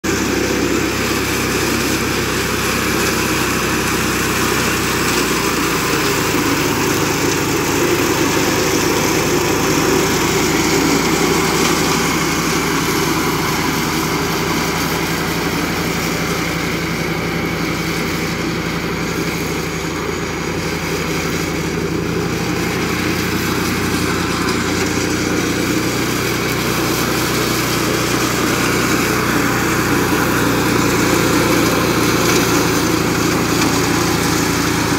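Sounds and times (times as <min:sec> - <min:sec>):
mower engine droning: 0:00.0 - 0:34.9
mower shaft shredding grass: 0:00.0 - 0:34.9.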